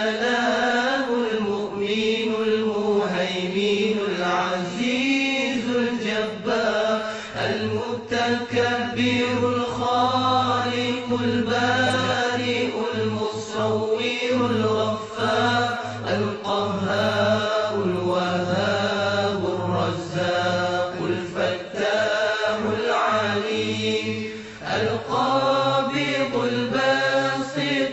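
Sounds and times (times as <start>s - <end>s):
person chanting: 0.0s - 27.9s.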